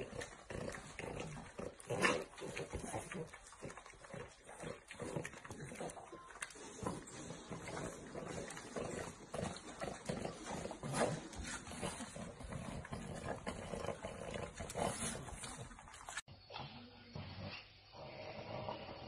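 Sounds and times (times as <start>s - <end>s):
dogs grunting and snuffling: 0.0s - 19.0s.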